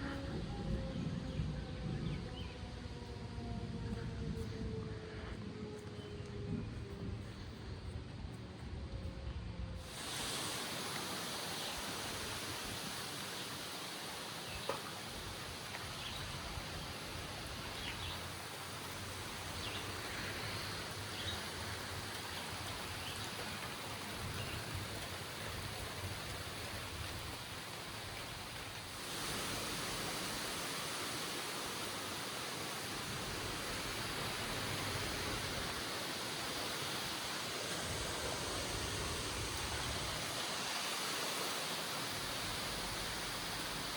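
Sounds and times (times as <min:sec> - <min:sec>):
heavy rain and wind hiss: 0:00.0 - 0:43.9.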